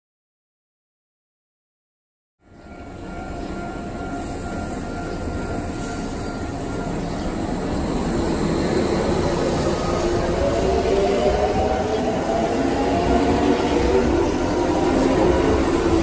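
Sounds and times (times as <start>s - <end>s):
electric train rumble: 2.4s - 16.0s
train whine: 2.4s - 16.0s.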